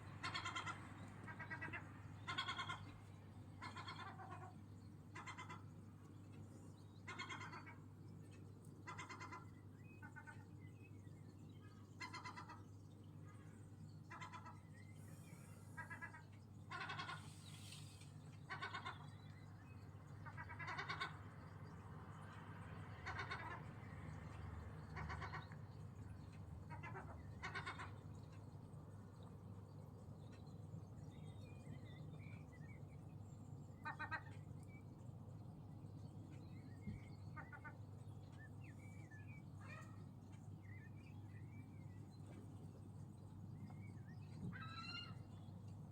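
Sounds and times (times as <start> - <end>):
gulls calling: 0.0 - 6.4, 7.0 - 45.9
steady low hum: 0.0 - 45.9.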